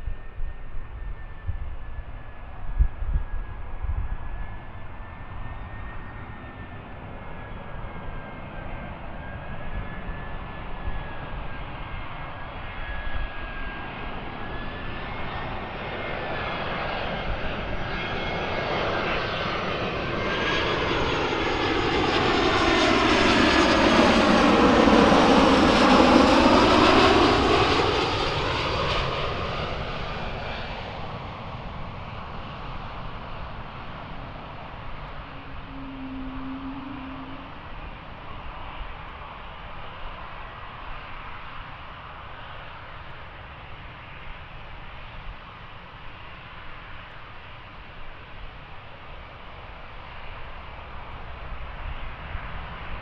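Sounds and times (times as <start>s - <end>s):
jet airliner engines whining: 0.0s - 53.0s.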